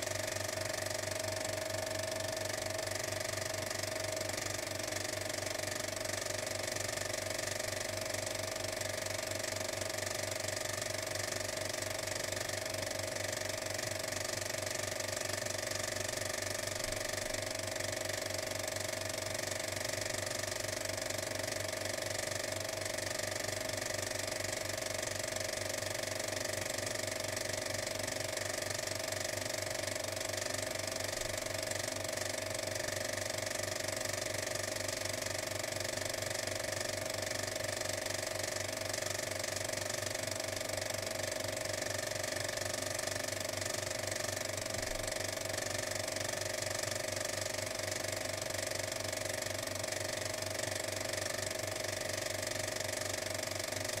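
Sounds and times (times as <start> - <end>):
machine drone with rattle: 0.0 - 54.0.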